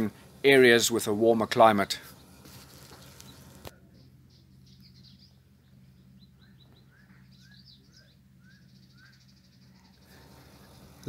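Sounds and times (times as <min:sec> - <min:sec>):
low steady hum: 0:00.0 - 0:11.0
bird chirps: 0:02.0 - 0:11.0.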